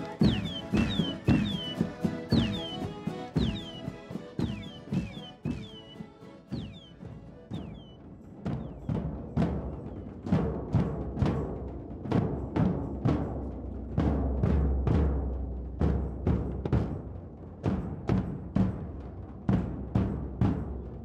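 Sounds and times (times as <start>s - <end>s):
marching band drums: 0.0s - 21.0s.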